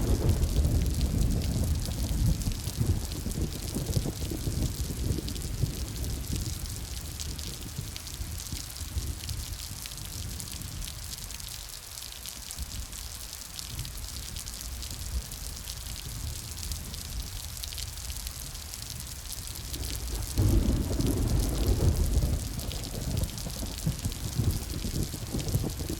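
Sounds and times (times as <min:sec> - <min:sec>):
steady rain patter: 0:00.0 - 0:25.9.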